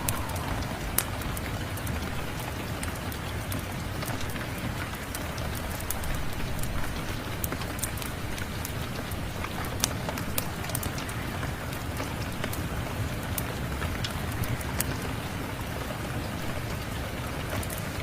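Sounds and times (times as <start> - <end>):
steady rain falling: 0.0 - 18.0
wood fire crackling and popping: 0.0 - 18.0.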